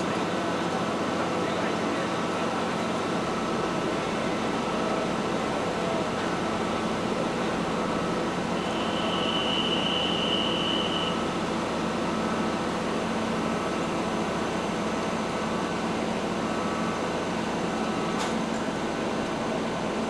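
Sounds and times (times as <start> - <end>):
heavy machinery drone: 3.2 - 19.7.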